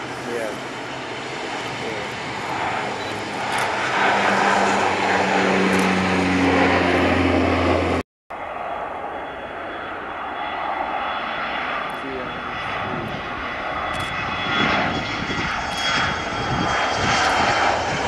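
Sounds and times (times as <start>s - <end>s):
jet engine whine: 0.0s - 18.0s
turboprop airliner taking off: 0.0s - 18.0s.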